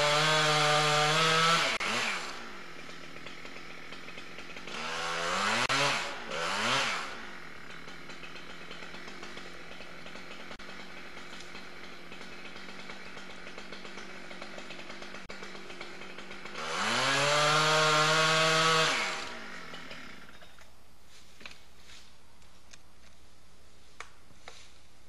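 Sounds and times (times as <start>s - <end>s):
chainsaw revving and idling: 0.0s - 20.6s.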